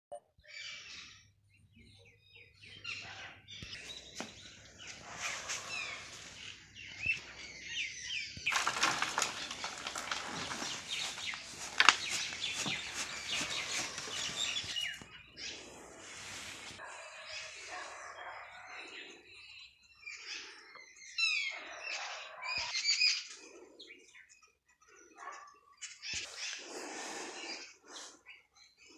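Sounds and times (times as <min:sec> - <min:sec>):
small birds chirping: 0:00.4 - 0:28.9.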